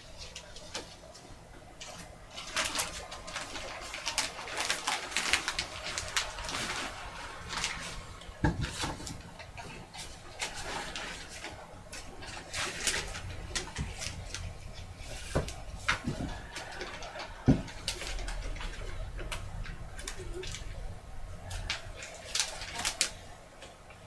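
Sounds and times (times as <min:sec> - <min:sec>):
cardboard pieces rustling and scraping: 0:00.0 - 0:23.7.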